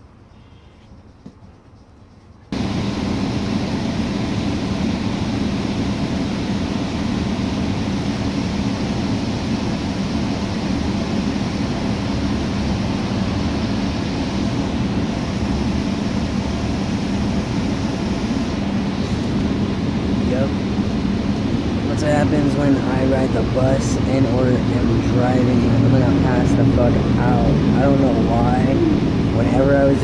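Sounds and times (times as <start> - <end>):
bus engine hum: 0.0 - 30.0
road and cabin noise: 0.0 - 30.0.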